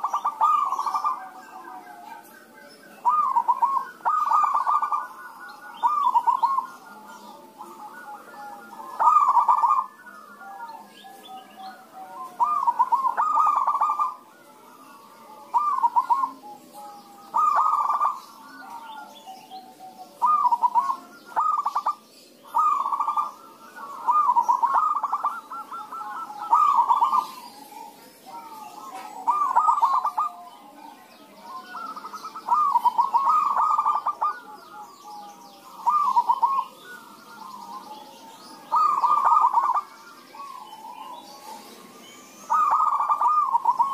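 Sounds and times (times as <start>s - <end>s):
doves cooing: 0.0s - 43.9s.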